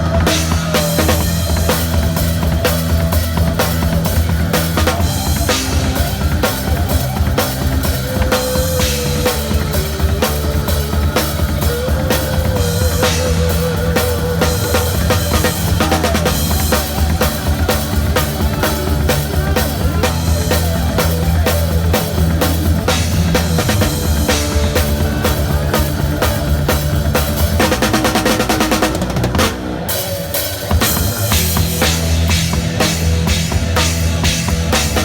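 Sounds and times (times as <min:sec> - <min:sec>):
background music: 0:00.0 - 0:35.0
drum kit playing a beat: 0:00.0 - 0:35.0.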